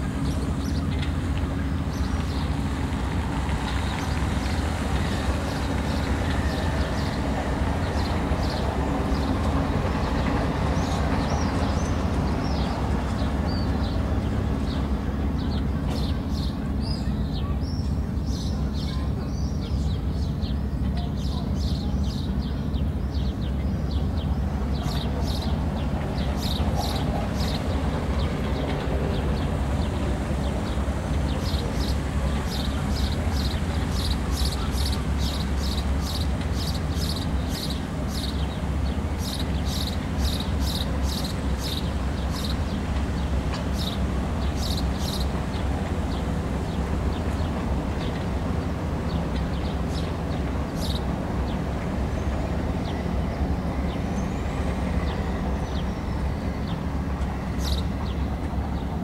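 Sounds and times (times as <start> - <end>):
low engine rumble: 0.0 - 59.0.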